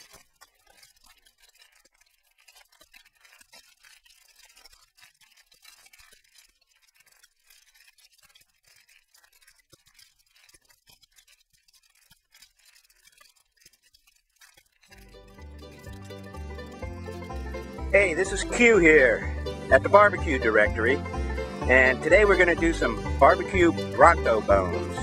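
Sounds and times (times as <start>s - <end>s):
faint crackling and clicking: 0.0s - 25.0s.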